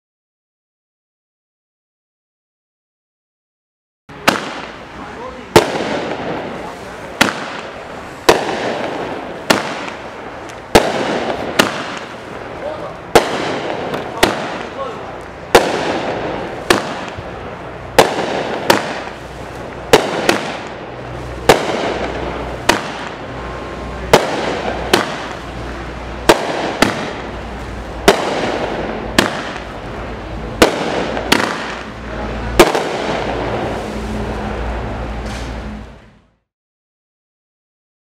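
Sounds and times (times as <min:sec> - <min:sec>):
fireworks hiss and crackle: 0:04.1 - 0:36.1
fireworks sharp reports: 0:04.1 - 0:36.1.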